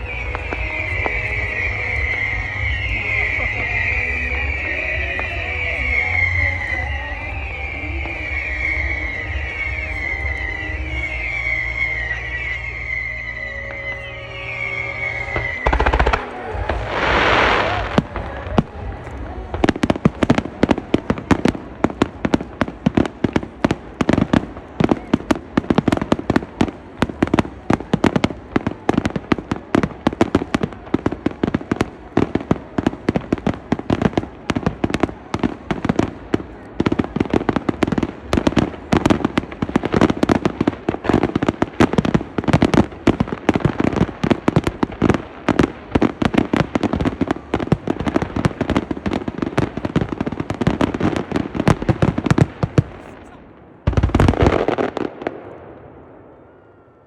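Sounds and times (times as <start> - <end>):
fireworks bursting and crackling: 0.0 - 56.4.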